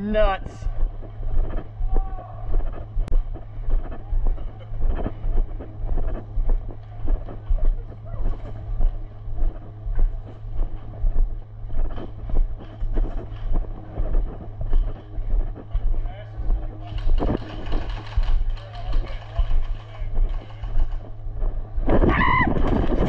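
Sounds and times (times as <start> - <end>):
footsteps on gravel: 0.0 - 22.8
wind on microphone: 0.0 - 23.0.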